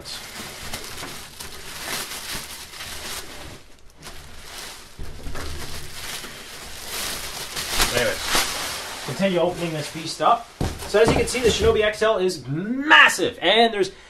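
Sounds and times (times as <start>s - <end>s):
plastic bag rustling and crinkling: 0.0s - 12.2s.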